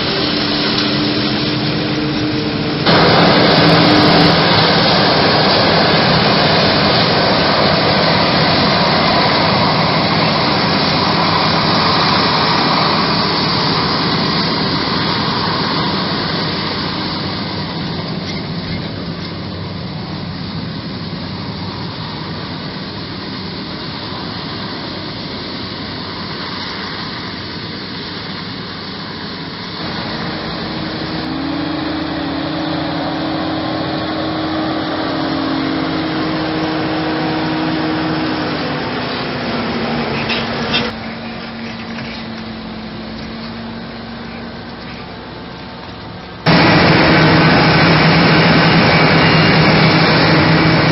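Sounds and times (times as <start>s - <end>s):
harvester mechanical drone: 0.0s - 50.9s
tractor engine: 0.0s - 50.9s.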